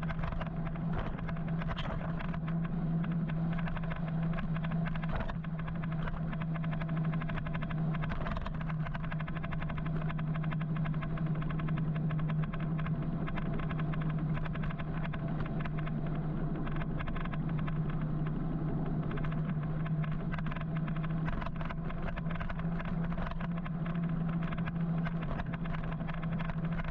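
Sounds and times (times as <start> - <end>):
motorcycle low hum: 0.0 - 26.9.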